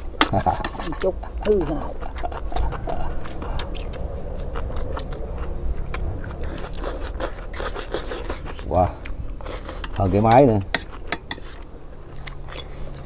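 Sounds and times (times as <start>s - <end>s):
chewing: 0.0s - 13.0s.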